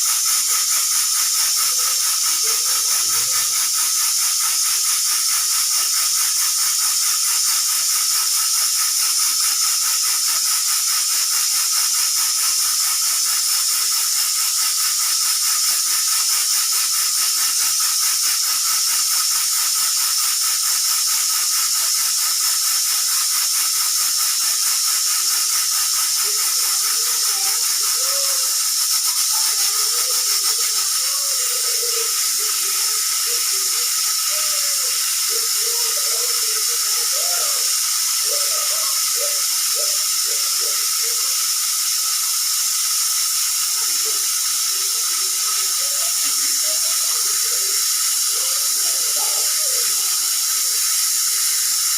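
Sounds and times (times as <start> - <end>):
pressure cooker hissing: 0.0 - 51.9.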